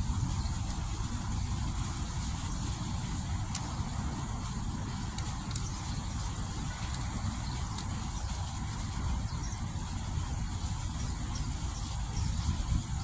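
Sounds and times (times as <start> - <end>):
fountain water jets splashing: 0.0 - 13.0.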